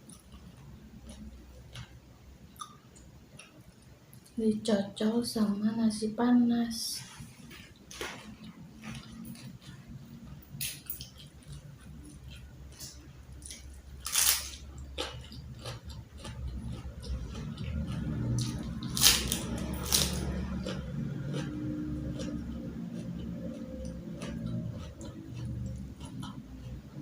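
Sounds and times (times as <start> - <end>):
chewing with crunches: 0.0 - 4.4, 7.4 - 27.0.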